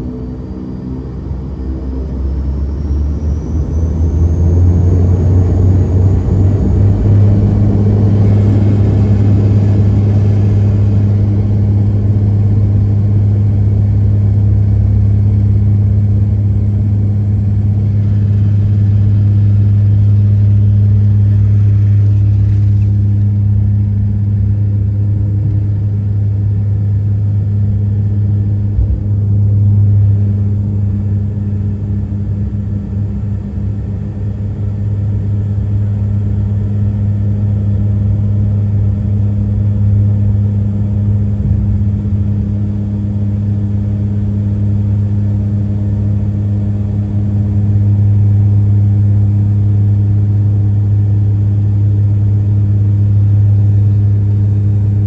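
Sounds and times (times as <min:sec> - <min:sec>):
deep propeller drone: 0:00.0 - 0:55.0
turbine whine: 0:00.0 - 0:55.0.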